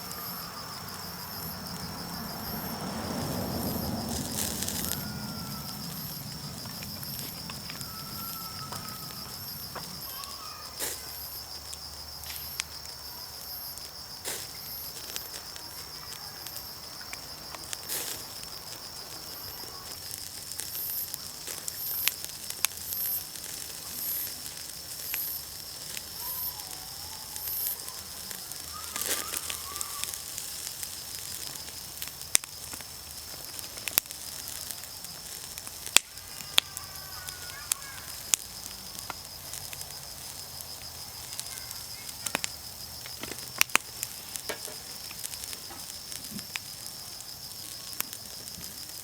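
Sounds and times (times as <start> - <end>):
fire crackling and popping: 0.0 - 49.0
night insects chirring: 0.0 - 49.0.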